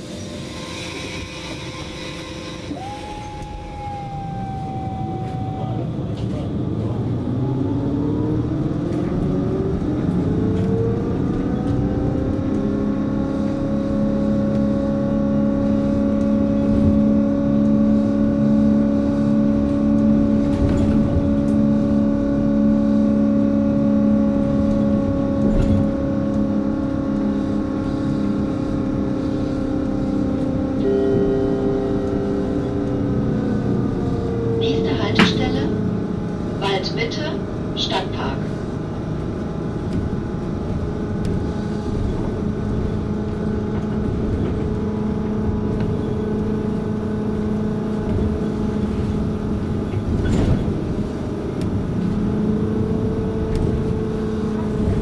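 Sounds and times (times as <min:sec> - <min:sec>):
electric traction motor whine: 0:00.0 - 0:55.0
road rumble: 0:00.0 - 0:55.0.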